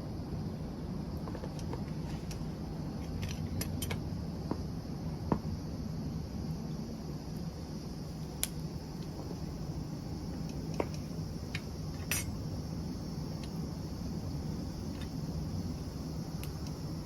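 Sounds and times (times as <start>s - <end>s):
log fire rumbling: 0.0s - 17.0s
fire crackling and popping: 1.0s - 17.0s.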